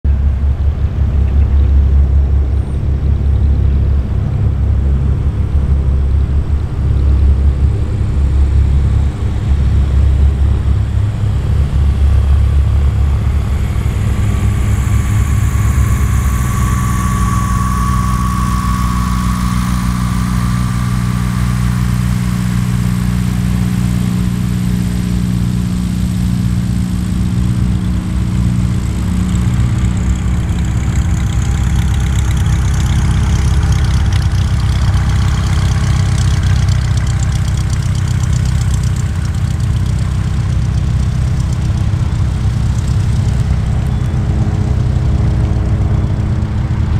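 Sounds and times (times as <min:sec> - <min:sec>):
light aircraft engine droning: 0:00.1 - 0:46.9.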